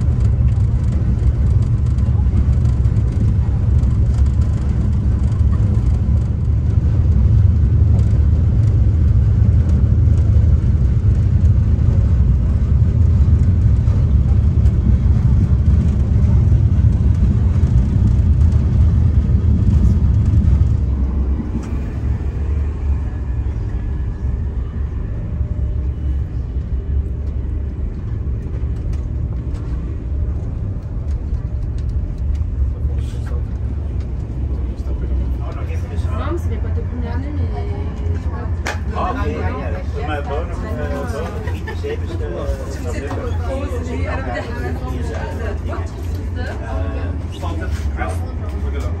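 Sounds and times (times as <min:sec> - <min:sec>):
train cabin low rumble: 0:00.0 - 0:49.0.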